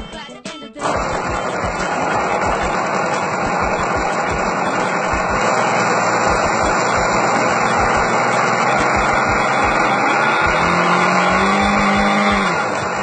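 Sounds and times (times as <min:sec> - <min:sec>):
heavy rumbling noise: 0:00.8 - 0:13.0
model airplane engine running: 0:00.8 - 0:13.0.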